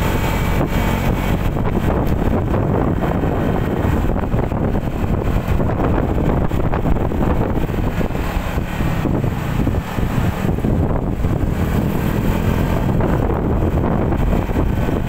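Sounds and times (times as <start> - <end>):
motorbike engine running: 0.0 - 15.0
wind rushing over microphone: 0.0 - 15.0.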